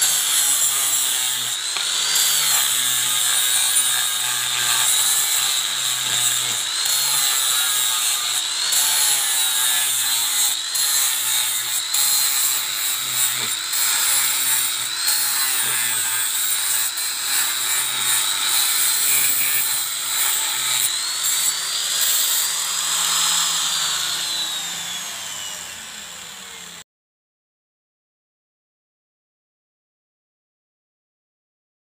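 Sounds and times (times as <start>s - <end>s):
angle grinder grinding steel: 0.0s - 26.8s
grinder spinning down: 0.0s - 26.8s.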